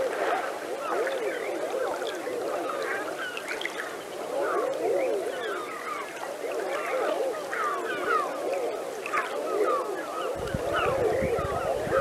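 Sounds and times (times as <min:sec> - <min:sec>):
chorus of animals calling: 0:00.0 - 0:12.0.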